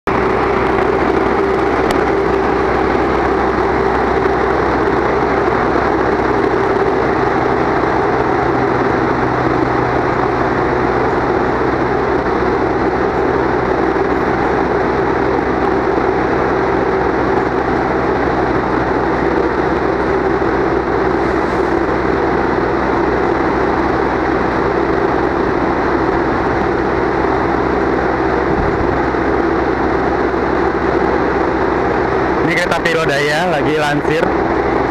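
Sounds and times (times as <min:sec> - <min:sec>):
train diesel engine droning: 0:00.0 - 0:34.9.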